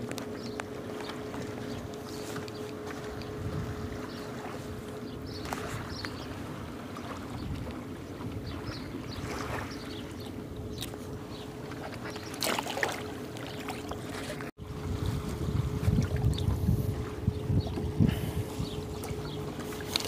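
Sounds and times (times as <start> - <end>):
water at riverbank: 0.0 - 20.0
wind: 0.0 - 20.0.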